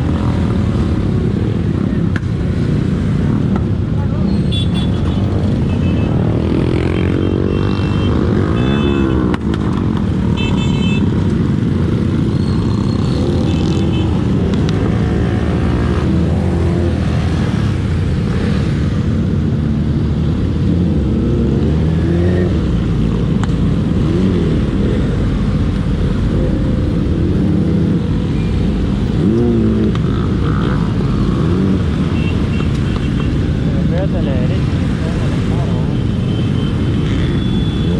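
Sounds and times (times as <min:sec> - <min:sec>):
motorcycles revving: 0:00.0 - 0:37.9.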